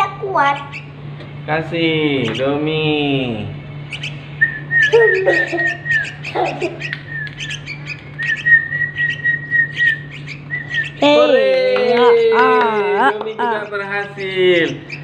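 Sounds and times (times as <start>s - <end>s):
nestlings chirping: 0.3s - 11.4s, 12.0s - 15.0s.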